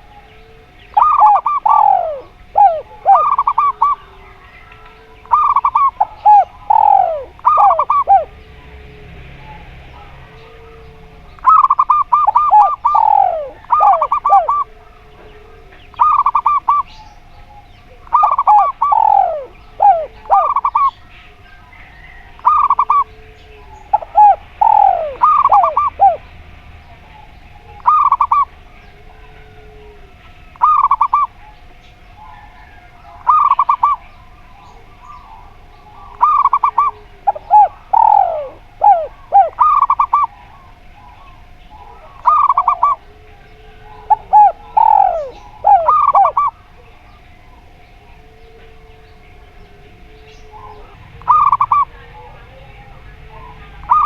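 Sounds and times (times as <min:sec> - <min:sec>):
dove cooing staccato phrases: 0:00.0 - 0:54.0.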